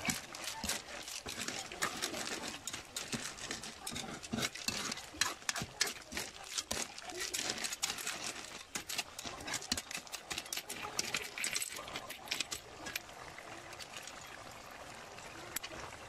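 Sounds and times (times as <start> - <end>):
snail shells clattering in metal pan: 0.0 - 14.4.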